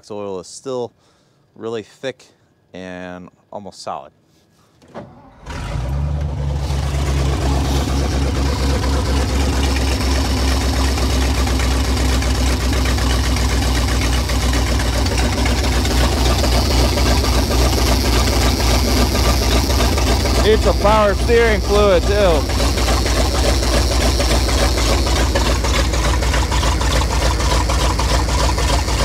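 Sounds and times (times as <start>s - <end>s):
truck engine idling: 5.2s - 29.0s.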